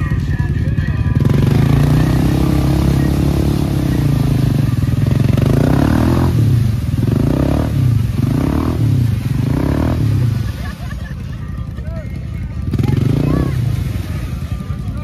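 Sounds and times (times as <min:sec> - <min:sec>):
atv engine revving: 0:00.0 - 0:15.0
tires spinning in mud: 0:00.0 - 0:15.0.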